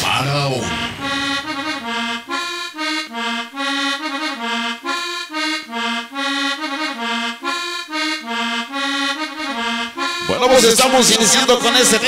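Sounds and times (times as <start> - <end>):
accordion cumbia melody: 0.0 - 12.0.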